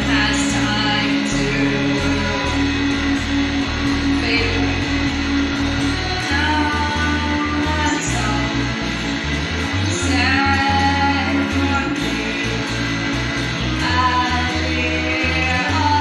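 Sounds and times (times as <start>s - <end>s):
guitar: 0.0s - 16.0s
person singing: 0.0s - 16.0s.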